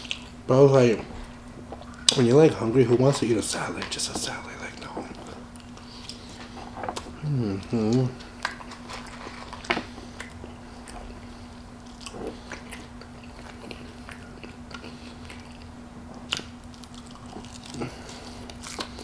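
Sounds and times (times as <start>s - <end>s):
chewing fries: 0.0s - 19.0s
faint steady hum: 0.0s - 19.0s.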